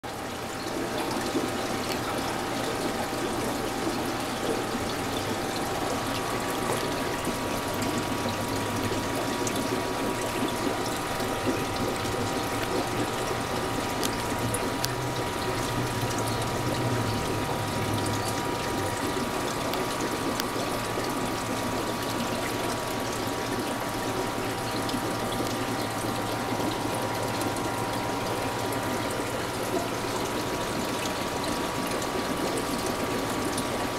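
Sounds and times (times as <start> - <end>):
aquarium pump hum: 0.0 - 33.9
water bubbling: 0.3 - 33.9.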